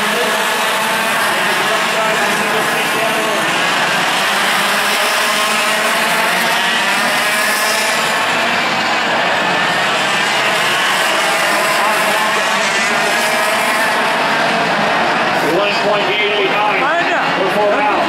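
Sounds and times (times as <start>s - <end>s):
racing kart engines revving: 0.0s - 18.0s.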